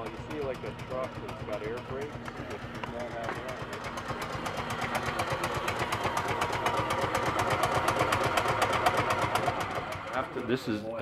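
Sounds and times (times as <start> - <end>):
air compressor chugging: 0.0 - 11.0.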